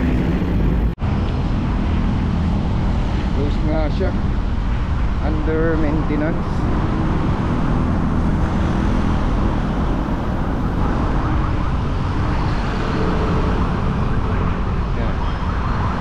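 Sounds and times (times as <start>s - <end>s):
road traffic: 0.0s - 16.0s
wind on microphone: 0.0s - 16.0s.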